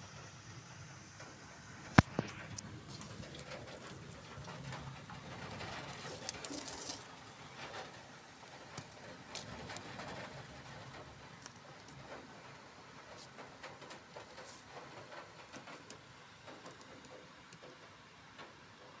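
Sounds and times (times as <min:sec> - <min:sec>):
rain falling: 0:00.0 - 0:19.0
drops ticking on surfaces: 0:03.0 - 0:18.5.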